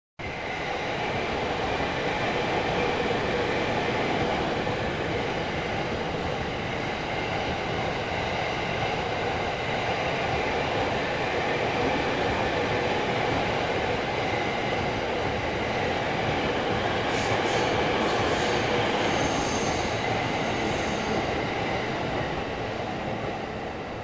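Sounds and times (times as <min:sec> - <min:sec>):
train wheels on rails: 0:00.2 - 0:24.0.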